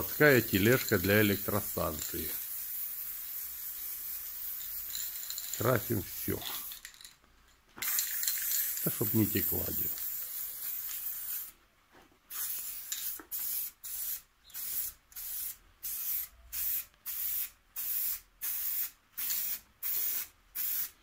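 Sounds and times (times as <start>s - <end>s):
spray paint can hissing: 0.0s - 7.0s, 7.8s - 11.5s, 12.3s - 21.0s.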